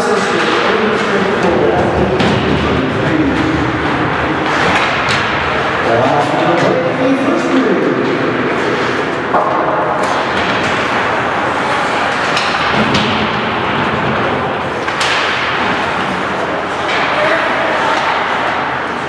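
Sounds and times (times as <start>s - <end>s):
arena noise: 0.0s - 19.0s
hockey sticks and puck clacking: 0.0s - 19.0s
skates carving ice: 0.2s - 19.0s.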